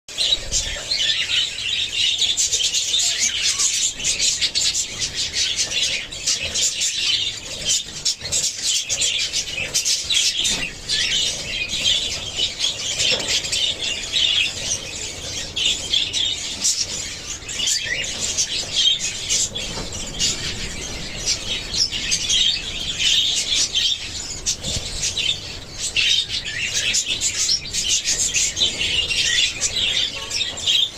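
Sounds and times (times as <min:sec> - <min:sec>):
budgerigars chirping: 0:00.1 - 0:30.9.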